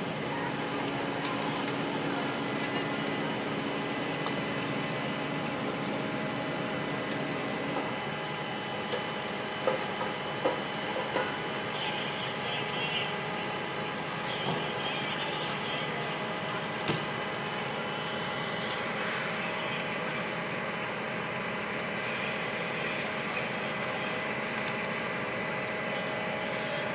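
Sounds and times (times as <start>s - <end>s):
fire truck engines running: 0.0s - 26.9s.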